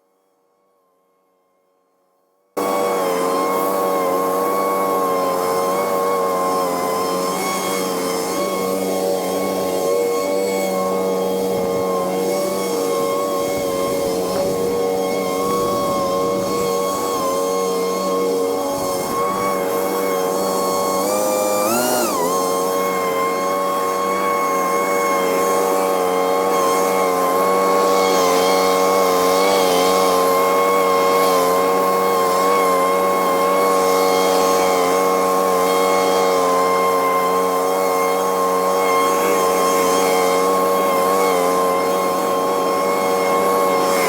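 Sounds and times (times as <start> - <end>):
leaf blower running: 2.6 - 44.0.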